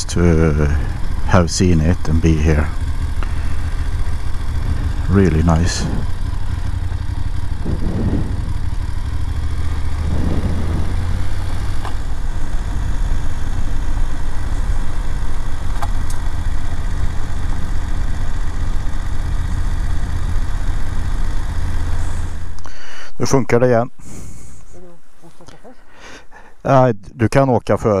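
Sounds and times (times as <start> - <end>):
motorcycle engine rumbling: 0.0 - 28.0.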